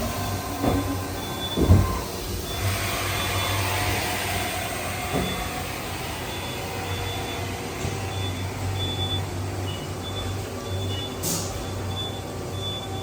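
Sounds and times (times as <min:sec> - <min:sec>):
machinery hum and hiss: 0:00.0 - 0:13.0.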